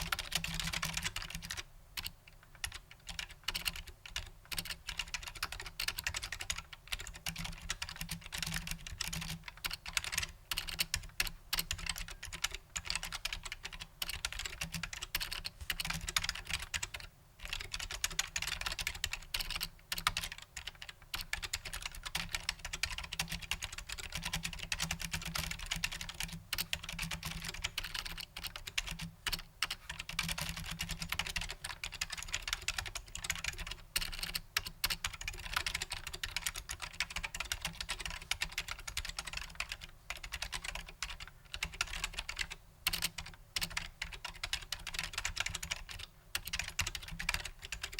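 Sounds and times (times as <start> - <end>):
soft mechanical keyboard typing: 0.0 - 47.9.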